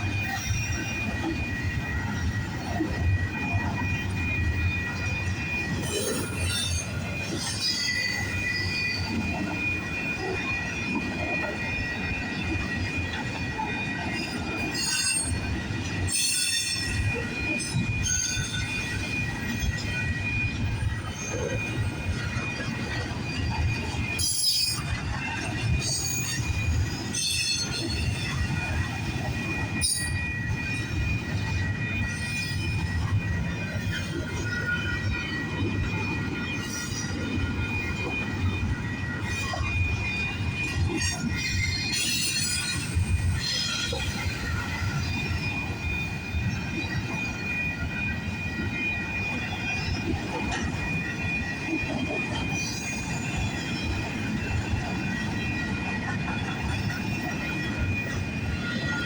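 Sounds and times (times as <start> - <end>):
low rumble of train cars: 0.0 - 59.0
train wheels squealing: 0.0 - 59.0.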